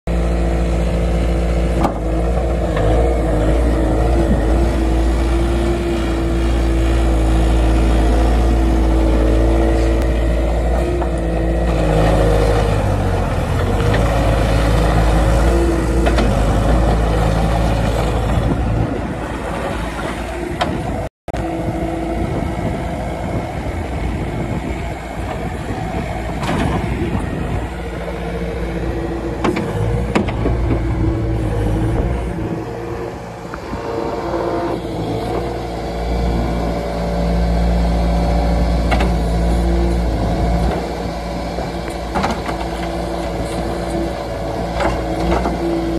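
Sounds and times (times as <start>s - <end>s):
skid steer loader diesel engine: 0.1s - 45.9s.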